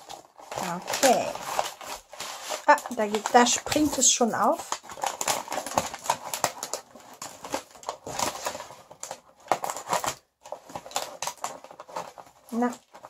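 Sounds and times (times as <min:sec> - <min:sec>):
paper and plastic crinkling: 0:00.0 - 0:13.0.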